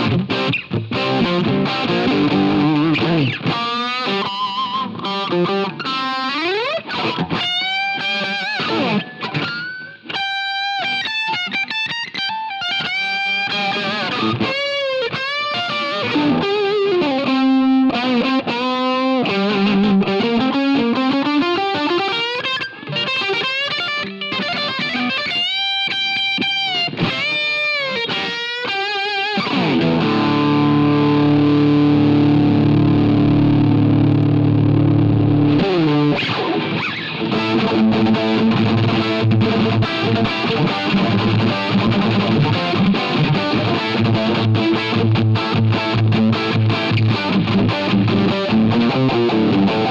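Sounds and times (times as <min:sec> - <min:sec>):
distorted electric guitar: 0:00.0 - 0:49.9.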